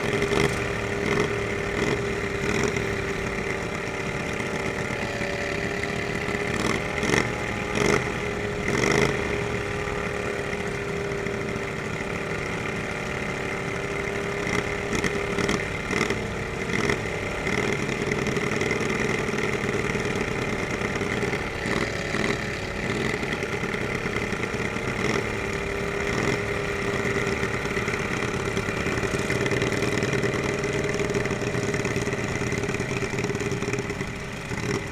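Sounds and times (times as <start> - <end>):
lawnmower engines running: 0.0 - 34.9.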